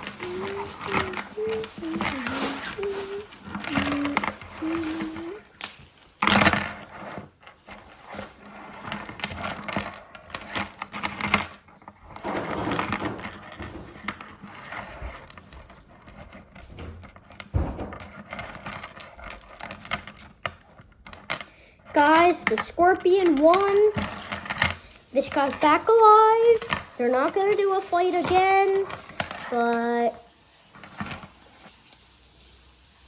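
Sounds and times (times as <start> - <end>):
plastic toys clicking and clattering: 0.0 - 32.0.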